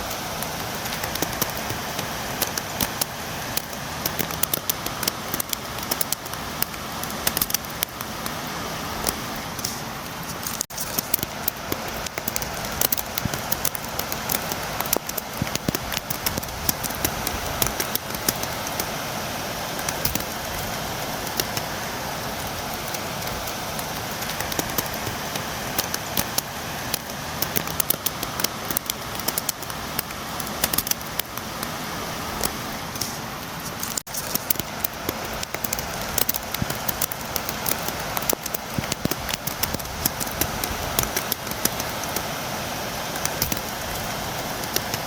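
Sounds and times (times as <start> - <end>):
rain beating against a window: 0.0 - 45.0.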